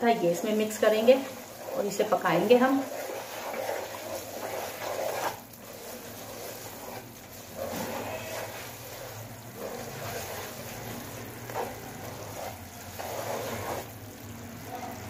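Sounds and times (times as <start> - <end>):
wooden spoon scraping pan: 0.0 - 13.9
syrup bubbling in pan: 0.0 - 15.0.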